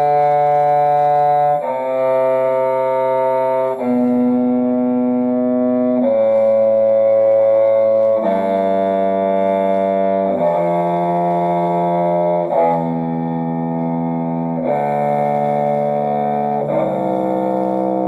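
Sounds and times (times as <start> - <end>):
bowed low string scale: 0.0 - 18.0.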